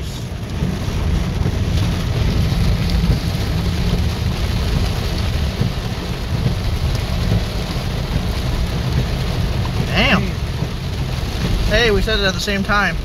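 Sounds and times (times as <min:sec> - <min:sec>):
deep low rumble: 0:00.0 - 0:11.7
heavy rain on windshield: 0:00.0 - 0:13.0.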